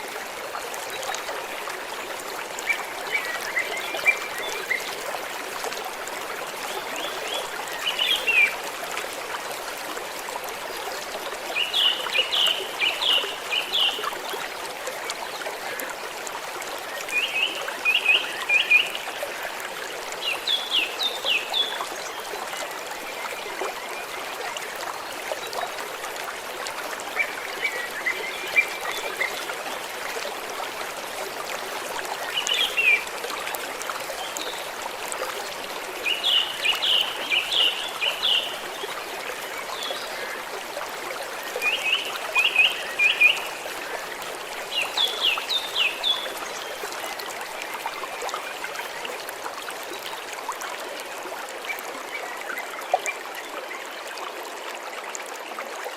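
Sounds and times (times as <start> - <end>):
stream trickling: 0.0 - 55.9.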